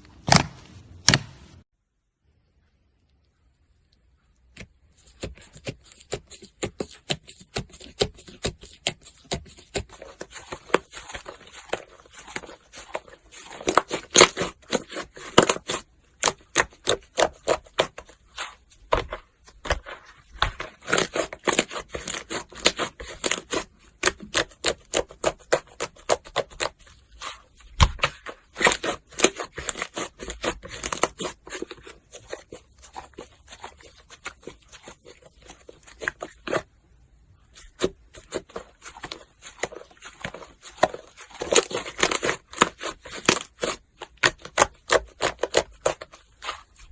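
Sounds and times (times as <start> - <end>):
slime squelching and popping: 3.9 - 46.9.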